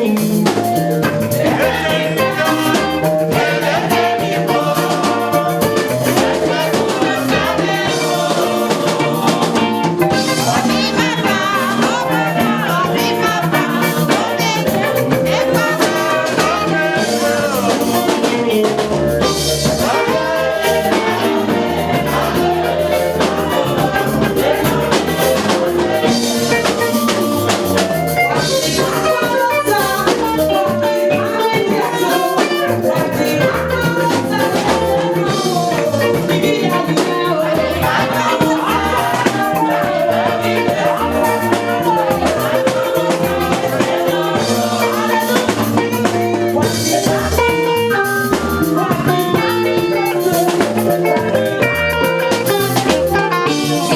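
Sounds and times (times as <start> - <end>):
drums beating: 0.0 - 53.9
keyboard: 0.0 - 53.9
people singing worship music: 0.0 - 53.9.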